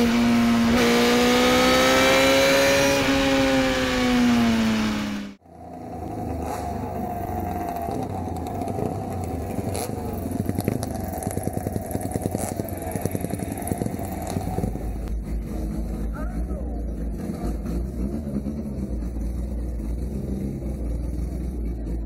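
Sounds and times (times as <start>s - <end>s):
motorcycle engine on board: 0.0s - 22.0s
motorcycles on cobblestones: 0.0s - 22.0s.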